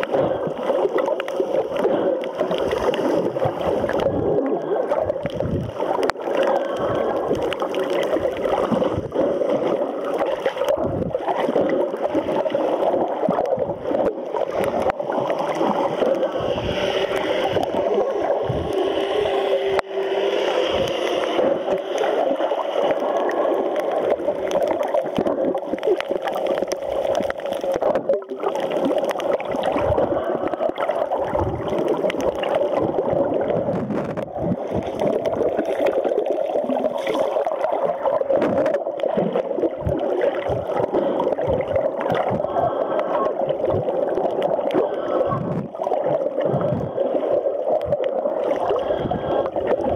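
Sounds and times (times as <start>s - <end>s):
underwater water rushing: 0.0s - 49.9s.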